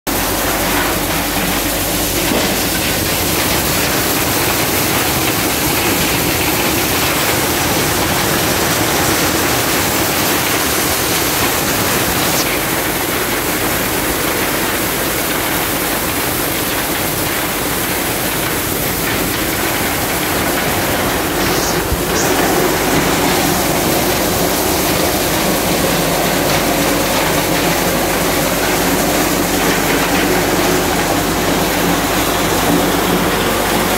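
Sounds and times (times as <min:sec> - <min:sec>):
thresher running: 0:00.1 - 0:33.9.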